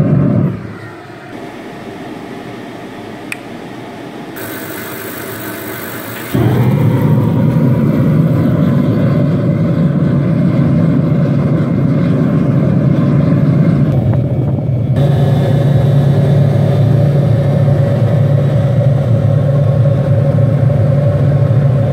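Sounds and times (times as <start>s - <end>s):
gas burner flame rushing: 0.0s - 1.6s, 4.2s - 21.9s
low hum: 0.0s - 21.9s.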